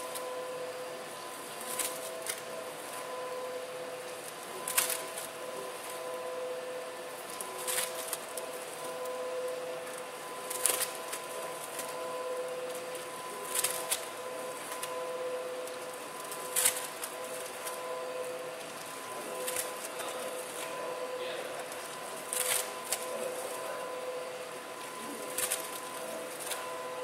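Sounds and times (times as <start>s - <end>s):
machine motor hum: 0.0s - 27.0s.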